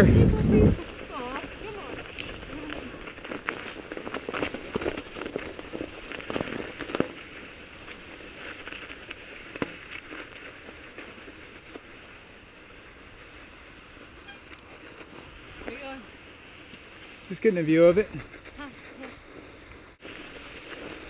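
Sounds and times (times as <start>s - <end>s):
bike tyres crunching on snow: 0.0s - 21.0s.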